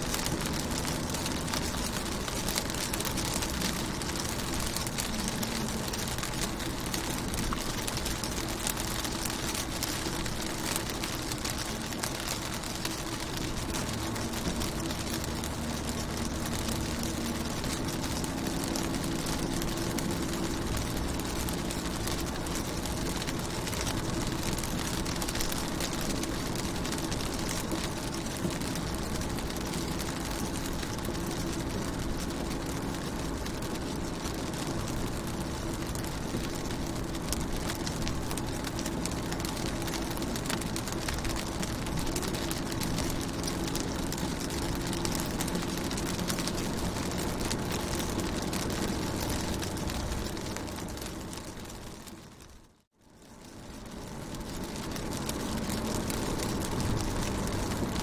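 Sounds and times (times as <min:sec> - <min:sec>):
rain on car windows: 0:00.0 - 0:58.0.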